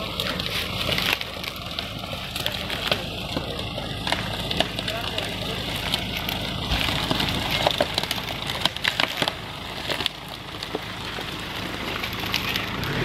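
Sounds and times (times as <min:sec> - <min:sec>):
diesel engine running at low revs: 0:00.0 - 0:13.0
dry bamboo cracking and snapping: 0:00.0 - 0:13.0.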